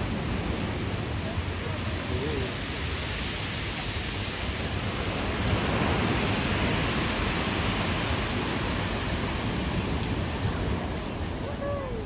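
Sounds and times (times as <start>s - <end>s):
sea surf washing onto shore: 0.0s - 12.0s.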